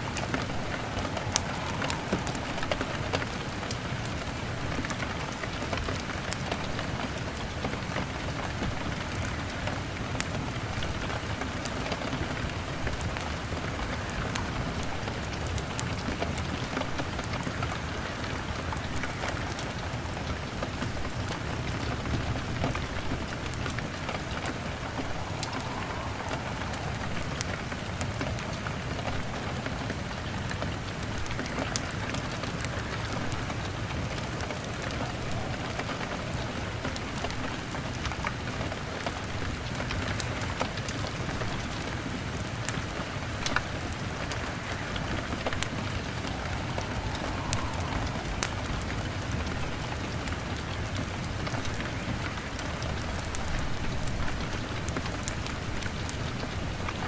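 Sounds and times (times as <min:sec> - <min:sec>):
log fire crackling: 0:00.0 - 0:57.0
rain on window glass: 0:00.0 - 0:57.0.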